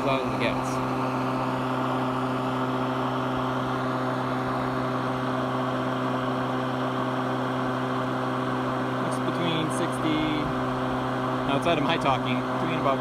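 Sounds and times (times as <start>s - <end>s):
electric lawn mower motor hum: 0.0s - 13.0s.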